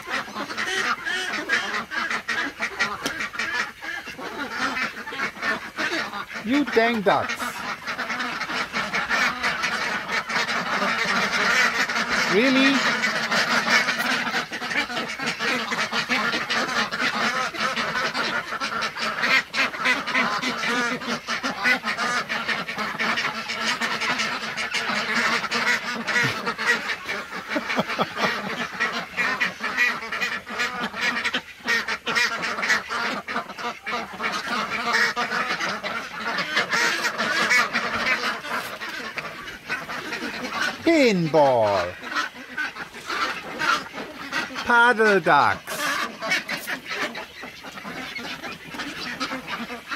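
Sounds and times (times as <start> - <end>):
ducks quacking: 0.0 - 49.9.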